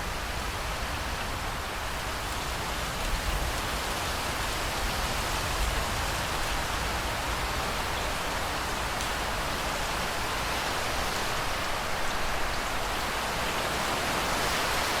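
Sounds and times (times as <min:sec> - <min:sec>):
steady rain pattering: 0:00.0 - 0:15.0.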